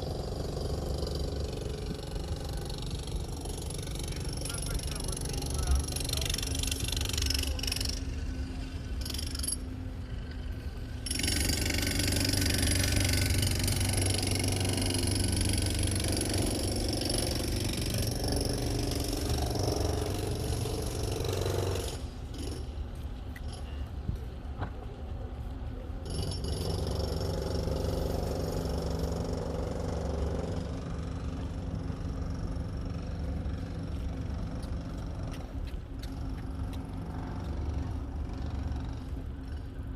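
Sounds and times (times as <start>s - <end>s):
bicycle riding rumble: 0.0s - 39.9s.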